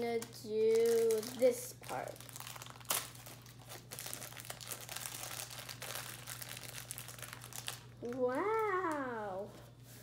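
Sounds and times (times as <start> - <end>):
plastic wrapper crinkling: 0.1 - 9.2.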